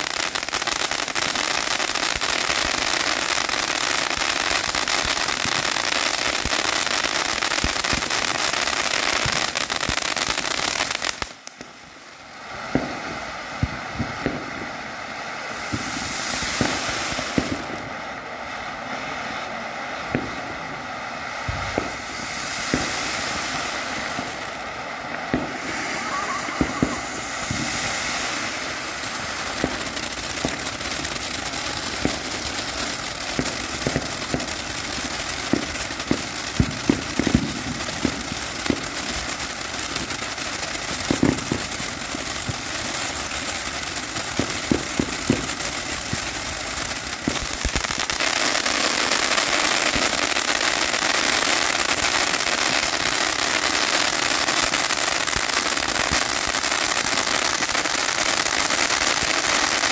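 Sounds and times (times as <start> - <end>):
firework crackles and pops: 0.0 - 59.9
firework fountain sparks hissing: 0.0 - 59.9.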